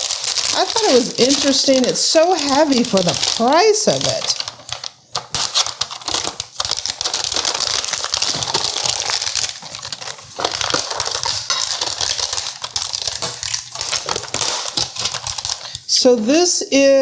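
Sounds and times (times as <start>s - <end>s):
knife cutting packaging: 0.0s - 15.8s
plastic and cardboard packaging crinkling: 0.0s - 16.4s.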